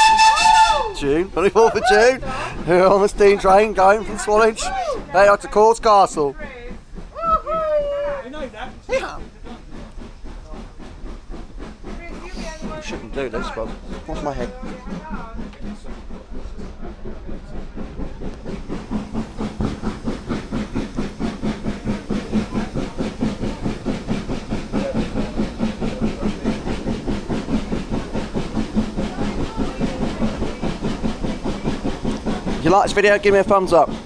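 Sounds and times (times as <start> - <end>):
rail noise: 0.0 - 34.0
steam locomotive exhaust chuffing: 0.0 - 34.0.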